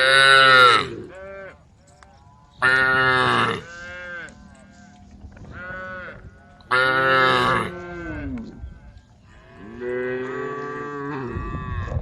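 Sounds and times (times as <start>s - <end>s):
cows mooing: 0.0s - 1.6s, 2.3s - 12.0s.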